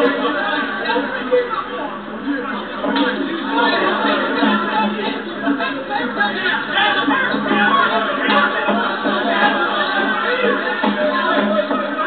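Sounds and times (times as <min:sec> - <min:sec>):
crowd chatter: 0:00.0 - 0:12.0
music playing: 0:00.0 - 0:12.0.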